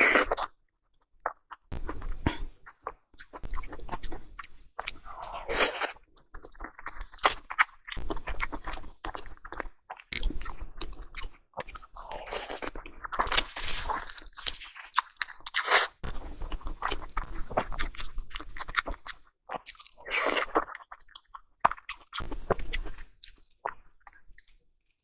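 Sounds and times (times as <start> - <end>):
wet mouth chewing sounds: 1.2 - 24.6.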